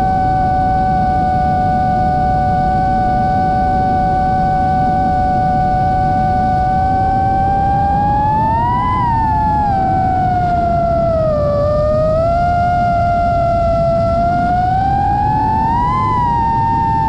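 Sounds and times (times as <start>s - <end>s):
drone motors whining: 0.0s - 17.0s
low wind rumble: 0.0s - 17.0s.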